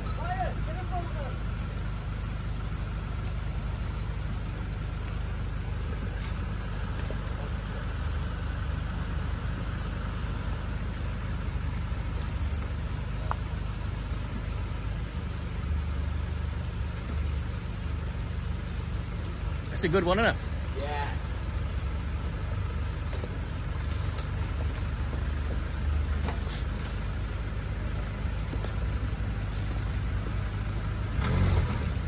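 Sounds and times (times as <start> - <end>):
pickup diesel engine running: 0.0 - 32.0.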